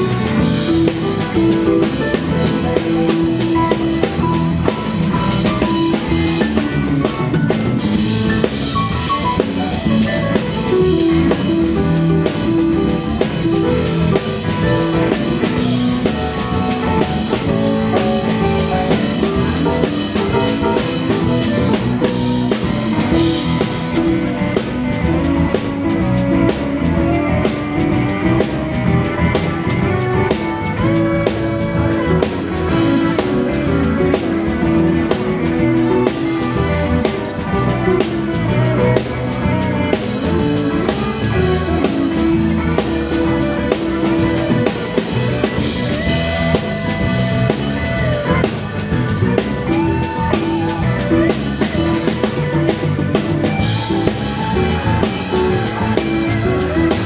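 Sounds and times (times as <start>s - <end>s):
bass guitar: 0.0s - 57.0s
drum kit: 0.0s - 57.0s
electric guitar: 0.0s - 57.0s
keyboards: 0.0s - 57.0s.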